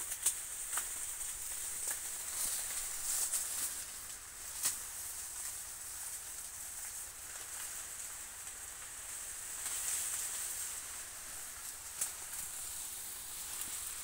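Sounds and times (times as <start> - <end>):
leaves rustling: 0.0 - 14.0
steady high hiss: 0.0 - 14.0.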